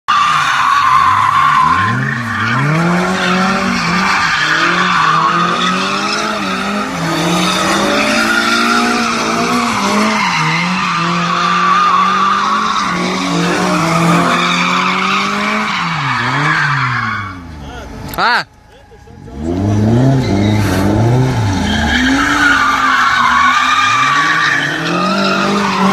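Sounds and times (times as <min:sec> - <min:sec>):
tyres squealing: 0:00.1 - 0:25.9
car engine revving: 0:00.2 - 0:25.9.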